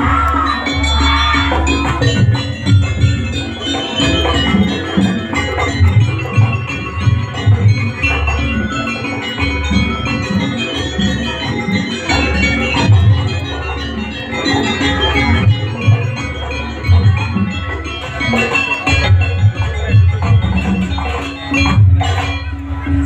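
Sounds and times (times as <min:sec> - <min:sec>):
metallophones and gongs ringing: 0:00.0 - 0:23.0
steady drum beat: 0:00.0 - 0:23.0.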